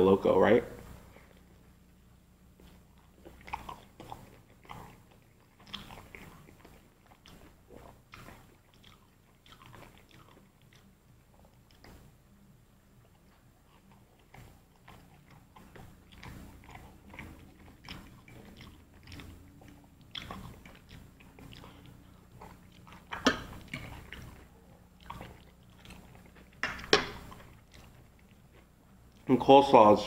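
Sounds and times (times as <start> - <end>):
chewing crunchy food: 0.8 - 29.4.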